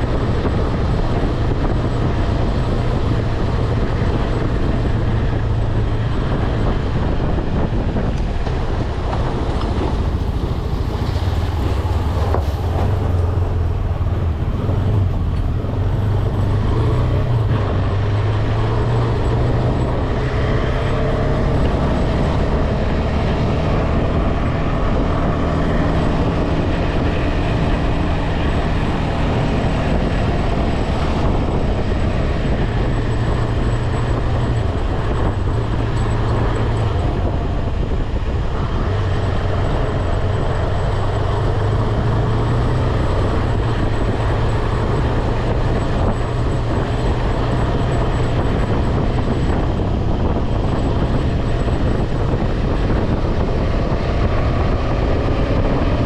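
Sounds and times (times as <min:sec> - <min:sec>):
road noise: 0:00.0 - 0:56.0
rushing wind: 0:00.0 - 0:56.0.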